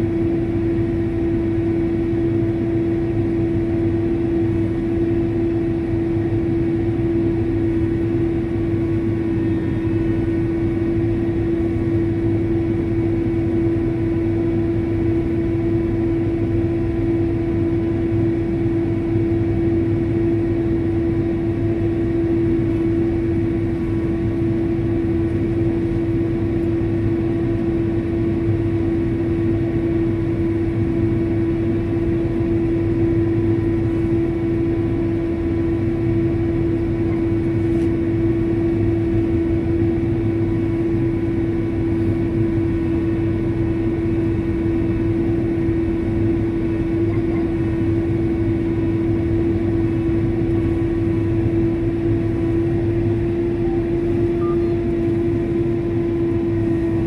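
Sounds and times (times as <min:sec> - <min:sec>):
sprayer engine droning: 0:00.0 - 0:57.0.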